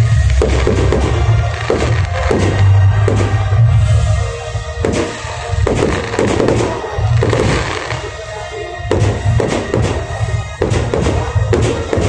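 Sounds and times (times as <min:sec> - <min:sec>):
crackling firework stars: 0:00.0 - 0:12.0
loud music with low beat: 0:00.0 - 0:12.0
firework shells bursting: 0:00.2 - 0:03.6, 0:04.8 - 0:08.2, 0:08.9 - 0:12.0.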